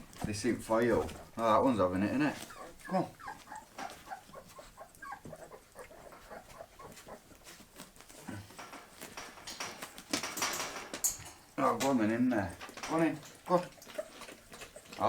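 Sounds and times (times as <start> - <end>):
puppies whimpering and squeaking: 0.0 - 10.6, 12.0 - 15.0.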